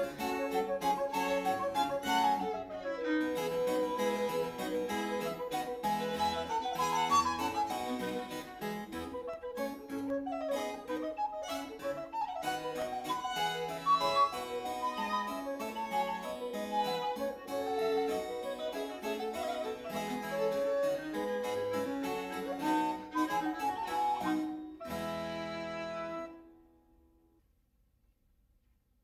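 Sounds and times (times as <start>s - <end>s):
instrumental background music: 0.0s - 26.4s.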